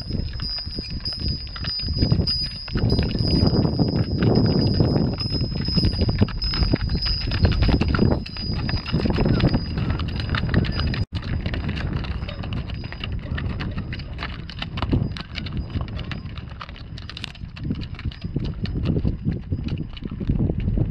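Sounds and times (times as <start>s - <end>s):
hooves clopping on gravel: 0.0s - 20.9s.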